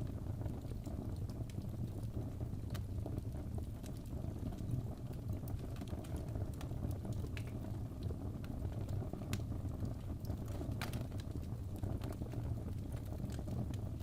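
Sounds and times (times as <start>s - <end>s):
fire flames rumbling: 0.0s - 14.0s
wood fire crackling and popping: 0.0s - 14.0s.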